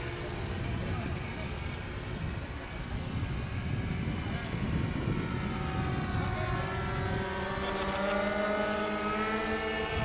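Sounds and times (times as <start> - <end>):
model airplane motor drone: 0.0 - 10.0
wind rumble on microphone: 0.0 - 10.0.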